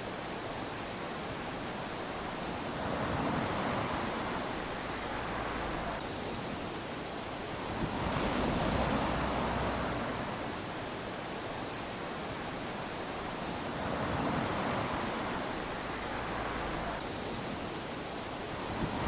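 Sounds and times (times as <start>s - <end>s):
waves washing onto sandy beach: 0.0s - 19.0s.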